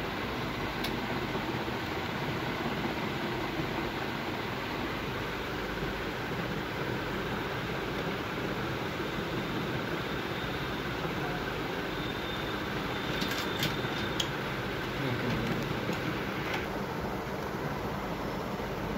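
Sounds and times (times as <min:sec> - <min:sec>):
projector cooling fans rushing: 0:00.0 - 0:18.9.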